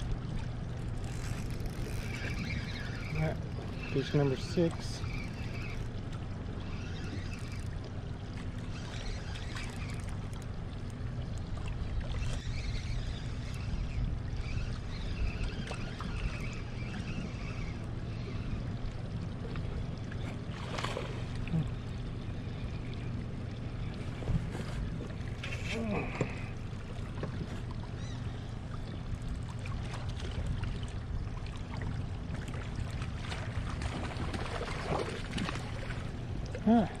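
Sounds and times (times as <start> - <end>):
low hum: 0.0 - 37.0.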